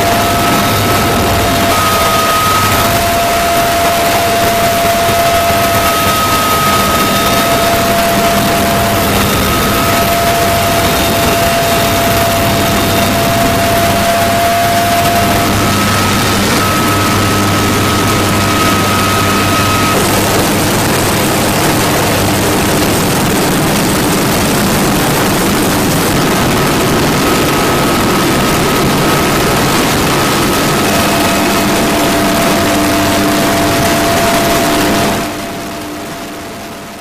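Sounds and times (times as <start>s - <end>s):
helicopter engines and rotors: 0.0s - 37.0s.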